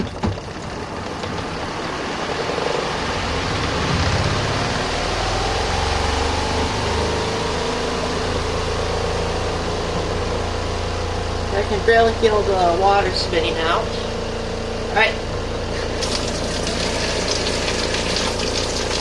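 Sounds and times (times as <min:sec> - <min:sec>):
washing machine spin motor: 0:00.0 - 0:19.0
faint rising whine: 0:00.6 - 0:17.2.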